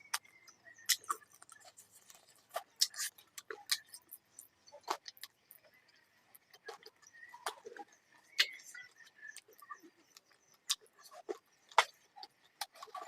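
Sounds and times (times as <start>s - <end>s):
chewing and mouth smacks: 0.0s - 13.0s
food crackles: 0.0s - 13.0s.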